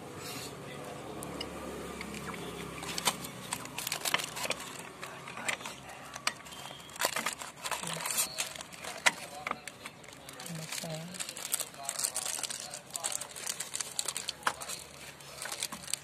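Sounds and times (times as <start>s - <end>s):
plastic packet crinkling: 2.2s - 16.0s.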